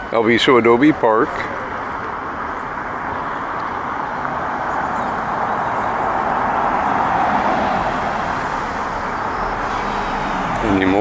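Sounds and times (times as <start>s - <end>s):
road vehicle going by: 0.0s - 11.0s.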